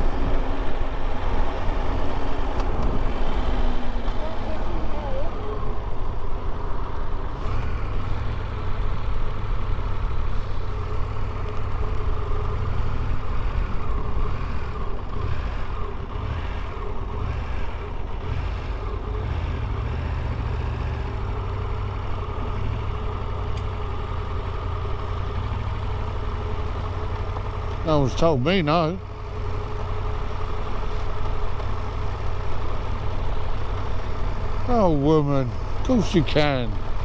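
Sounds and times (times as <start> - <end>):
wind and road noise: 0.0 - 37.0
motorcycle engine droning: 2.6 - 37.0.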